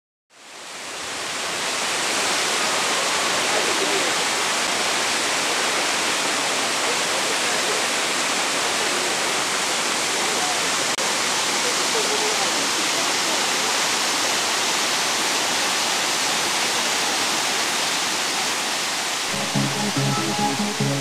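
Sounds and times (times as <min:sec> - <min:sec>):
waterfall rushing: 0:00.4 - 0:21.0.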